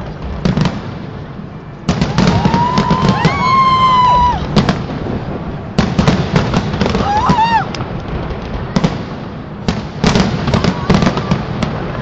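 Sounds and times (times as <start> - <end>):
fireworks bangs and crackling: 0.0 - 12.0
whistling fireworks shrieking: 1.8 - 12.0.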